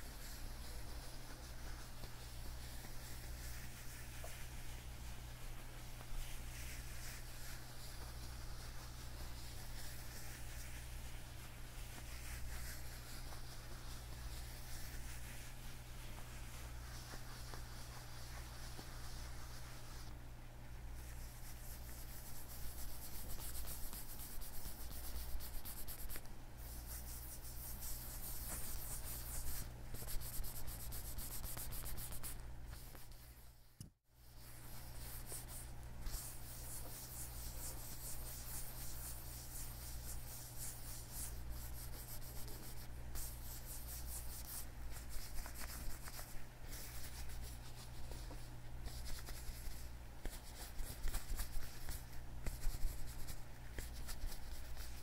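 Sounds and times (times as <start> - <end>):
leather gloves rubbing together: 0.0 - 20.2, 20.9 - 33.6, 34.2 - 55.0
steady low hum: 0.0 - 55.0.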